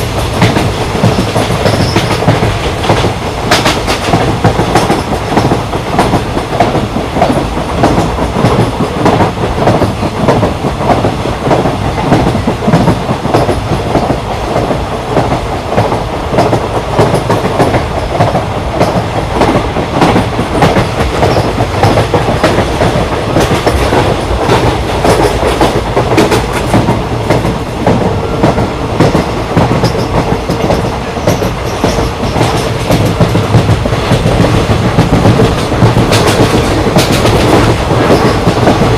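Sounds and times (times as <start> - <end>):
train rumbling: 0.0 - 38.9
wheels clickety-clack: 0.0 - 38.9.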